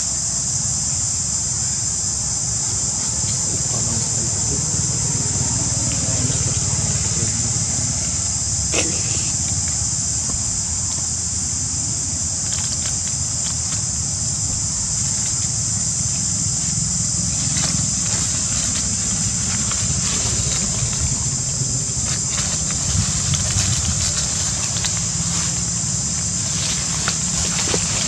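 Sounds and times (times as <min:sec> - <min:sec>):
insects chorus: 0:00.0 - 0:28.0
low rumble: 0:02.5 - 0:28.0.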